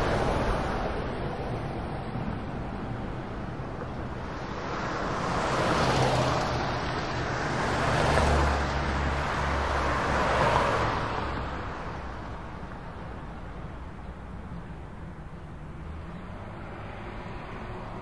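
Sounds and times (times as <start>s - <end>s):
wheel and rail noise: 0.0s - 18.0s.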